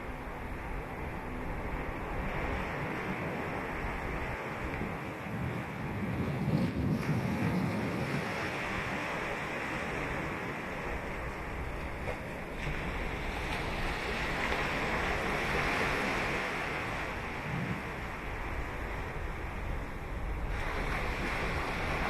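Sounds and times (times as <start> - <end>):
ocean waves breaking on beach: 0.0 - 22.0.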